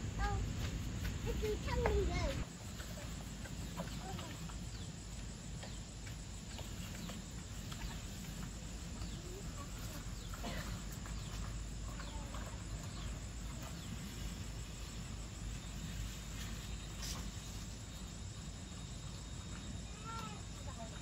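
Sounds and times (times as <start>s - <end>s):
steady background hiss: 0.0s - 21.0s
small bird calls: 1.4s - 21.0s.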